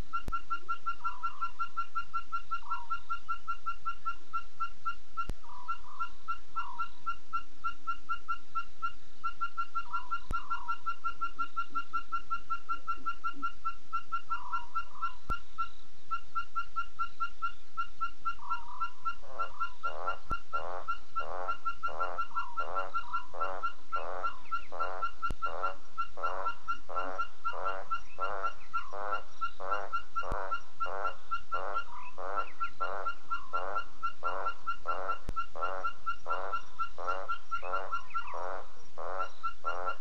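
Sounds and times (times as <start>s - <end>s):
rapid pulsed chirping: 0.0s - 40.0s
repeated wavering animal calls: 0.0s - 40.0s.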